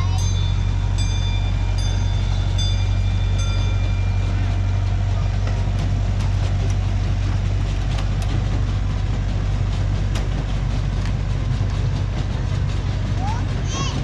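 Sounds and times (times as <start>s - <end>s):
miniature train rumbling: 0.0s - 14.0s.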